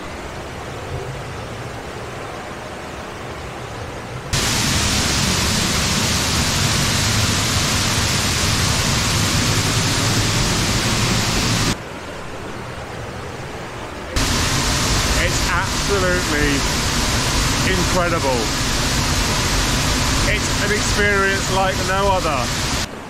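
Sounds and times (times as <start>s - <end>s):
waterfall rushing roar: 4.3s - 23.0s.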